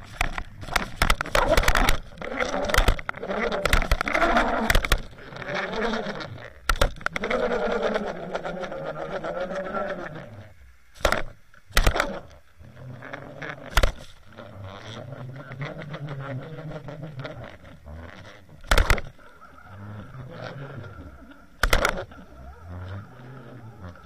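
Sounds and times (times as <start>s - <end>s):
muffled underwater rumbling: 0.0s - 24.0s.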